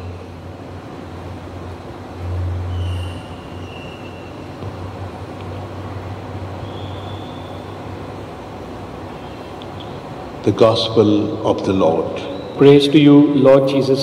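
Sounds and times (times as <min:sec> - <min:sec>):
low hum: 0:00.0 - 0:14.0
traffic rumble: 0:00.0 - 0:14.0.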